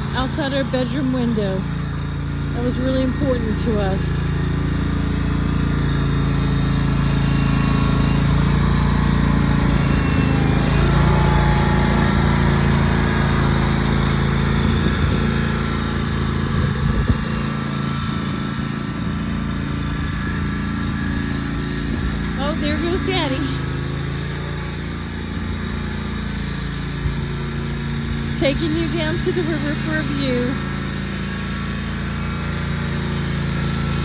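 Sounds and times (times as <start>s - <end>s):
lawn mower engine running: 0.0s - 34.0s.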